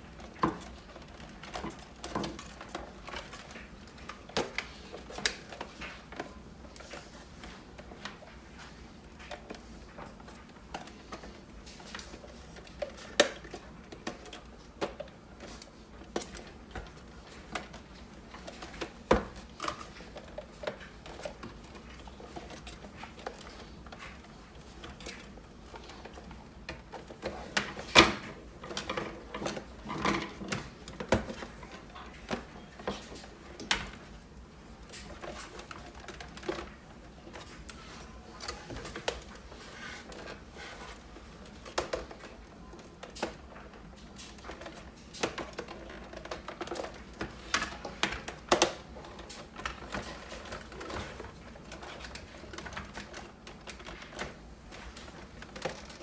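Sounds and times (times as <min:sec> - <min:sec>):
plastic parts clicking and knocking: 0:00.0 - 0:56.0.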